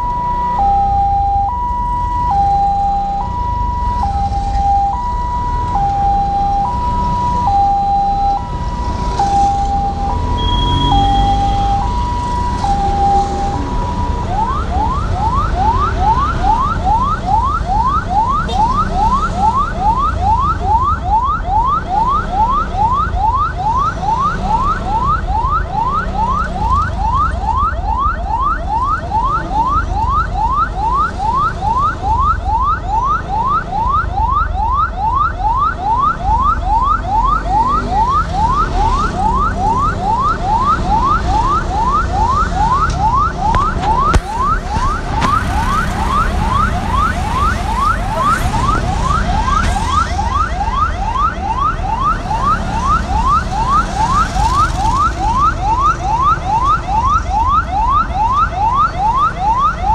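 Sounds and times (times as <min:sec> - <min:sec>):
electronic vehicle siren: 0:00.0 - 0:59.9
low rumble of engines: 0:00.0 - 0:59.9.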